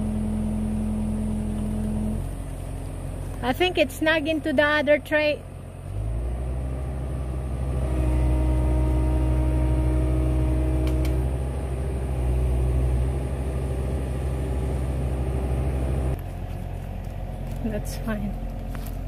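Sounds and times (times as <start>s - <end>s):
faint engine whine: 0.0s - 19.0s
machine engine droning: 0.0s - 19.0s.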